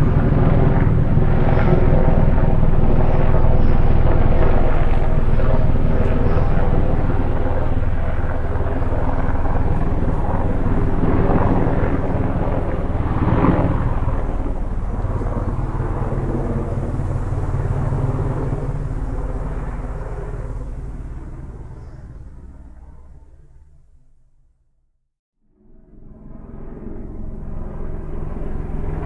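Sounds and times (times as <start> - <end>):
helicopter drone: 0.0 - 24.4, 25.4 - 29.0.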